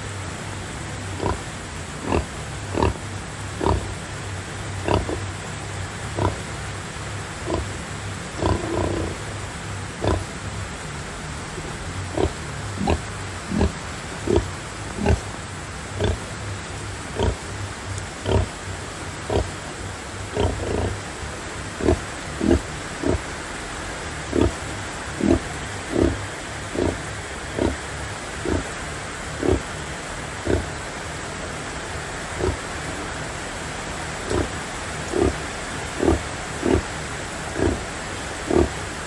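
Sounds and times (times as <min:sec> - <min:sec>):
steady hiss: 0:00.0 - 0:39.0
sow grunting: 0:00.4 - 0:06.7, 0:07.3 - 0:10.4, 0:11.4 - 0:23.4, 0:24.1 - 0:31.2, 0:32.2 - 0:33.3, 0:34.1 - 0:39.0.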